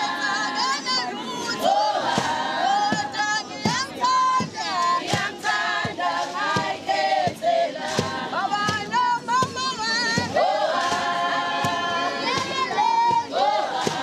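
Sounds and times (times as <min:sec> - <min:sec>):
women singing in chorus: 0:00.0 - 0:14.0.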